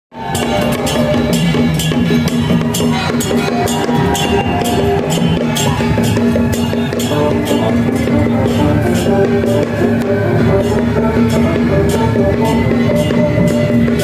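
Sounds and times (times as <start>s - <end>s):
percussion music with drums: 0.1s - 14.0s.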